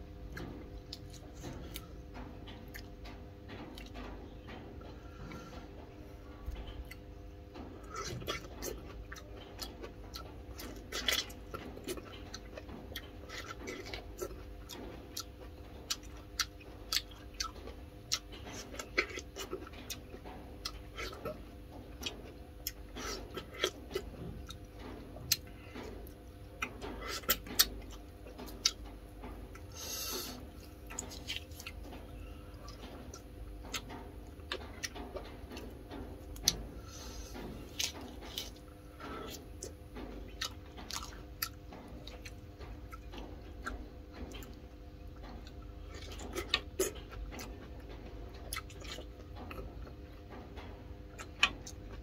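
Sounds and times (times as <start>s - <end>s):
faint hum: 0.0s - 52.0s
person chewing with wet smacks: 0.2s - 4.4s, 6.5s - 52.0s.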